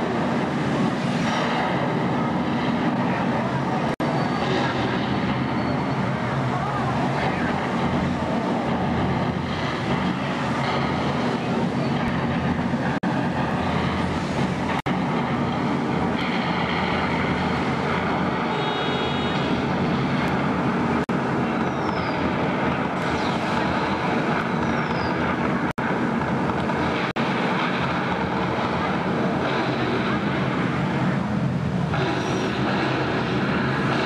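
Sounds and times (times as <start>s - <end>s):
rumble and rush of flame and water: 0.0s - 34.0s.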